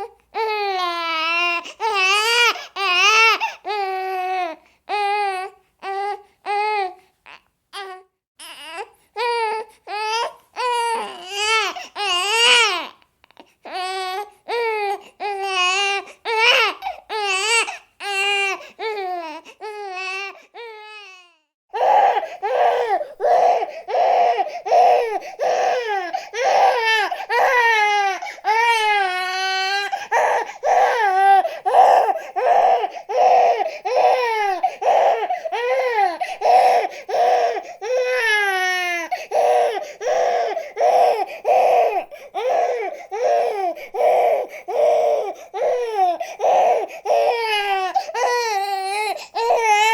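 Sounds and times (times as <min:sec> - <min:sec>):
infant crying: 0:00.0 - 0:49.9.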